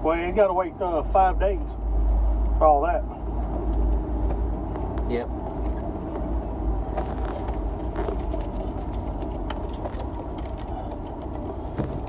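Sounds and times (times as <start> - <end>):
vehicle rumble from inside cab: 0.0 - 12.0.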